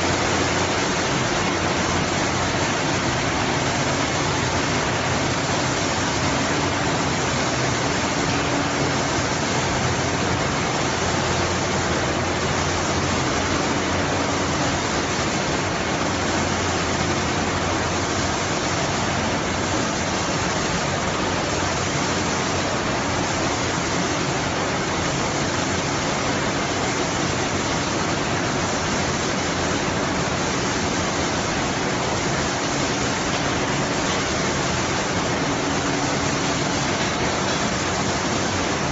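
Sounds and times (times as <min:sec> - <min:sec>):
air-blowing fans rushing: 0:00.0 - 0:38.9.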